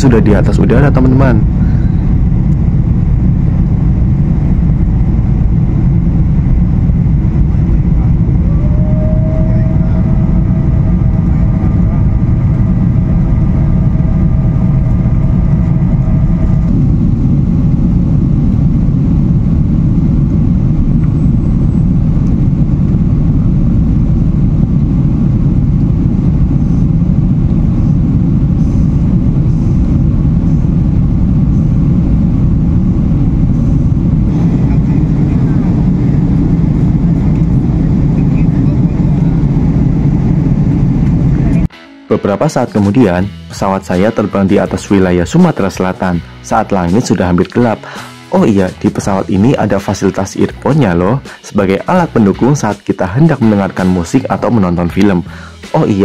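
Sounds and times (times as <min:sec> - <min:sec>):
aircraft cabin engine rumble: 0:00.0 - 0:41.7, 0:42.6 - 0:56.0
whine: 0:00.0 - 0:56.0.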